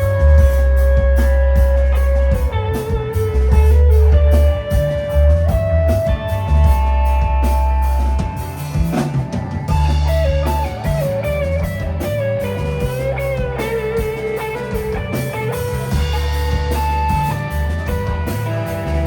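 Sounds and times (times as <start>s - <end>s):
bass guitar: 0.0s - 19.0s
drum kit: 0.0s - 19.0s
electric guitar lead: 0.0s - 19.0s.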